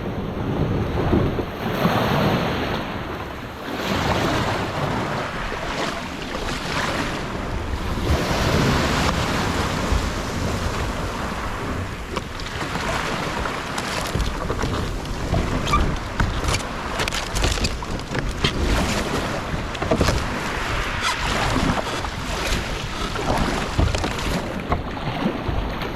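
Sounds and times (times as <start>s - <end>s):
ocean surf washing in: 0.0s - 25.9s
wind buffeting microphone: 0.0s - 25.9s.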